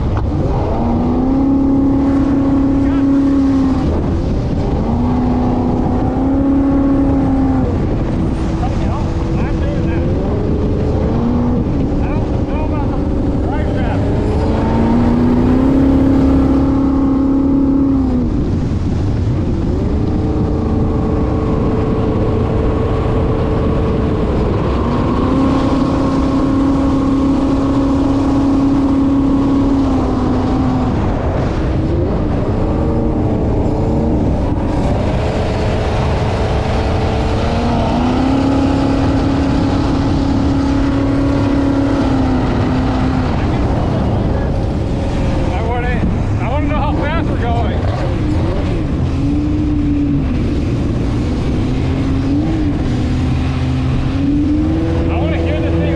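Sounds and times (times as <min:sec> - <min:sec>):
boat engine revving: 0:00.0 - 0:55.9
water rushing: 0:00.0 - 0:55.9.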